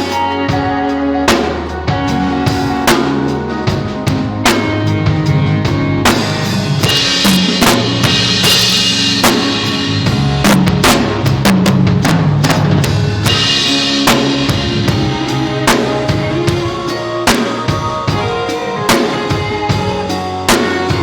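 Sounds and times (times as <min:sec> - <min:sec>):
bass line: 0:00.0 - 0:21.0
drum kit: 0:00.0 - 0:21.0
sustained chords: 0:00.0 - 0:21.0.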